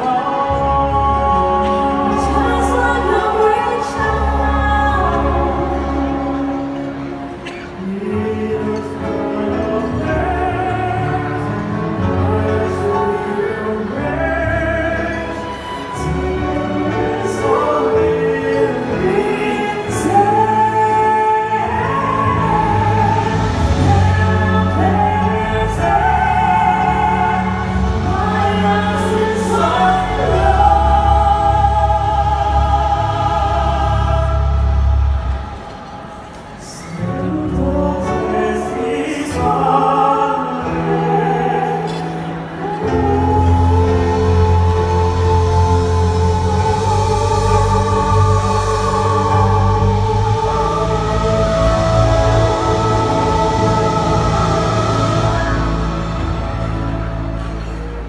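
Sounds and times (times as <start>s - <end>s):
operatic singing: 0.0s - 58.0s
orchestra playing slow ballad: 0.0s - 58.0s.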